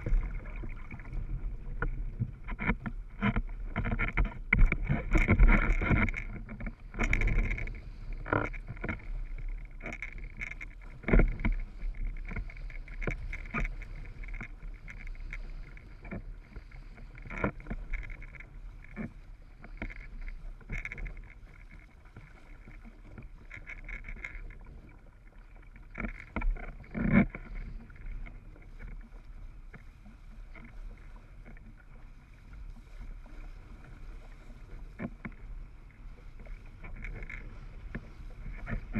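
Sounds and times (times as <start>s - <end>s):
board hull knocking and splashing: 0.0s - 38.9s.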